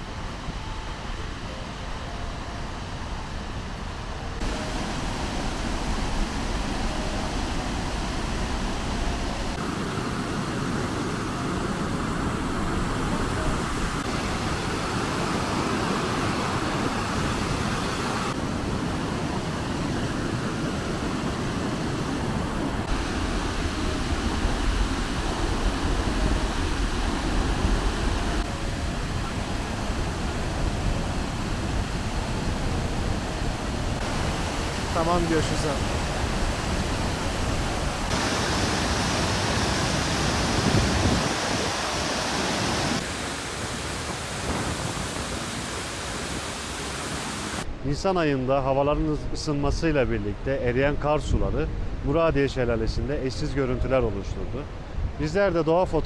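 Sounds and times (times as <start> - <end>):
waterfall rushing: 0.0 - 47.7.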